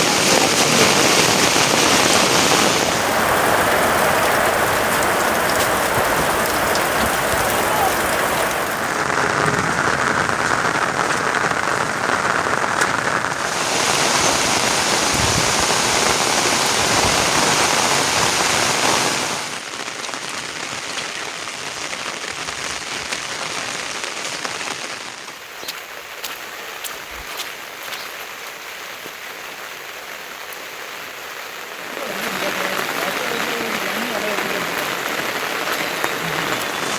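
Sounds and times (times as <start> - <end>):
steady rainfall: 0.0 - 36.9.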